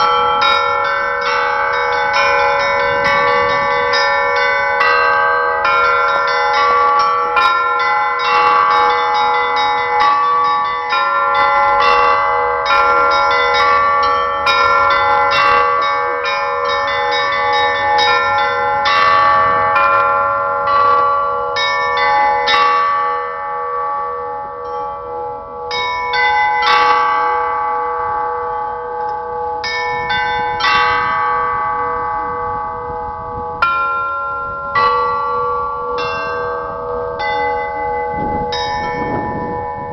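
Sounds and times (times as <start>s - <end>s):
large low bells ringing: 0.0s - 39.9s.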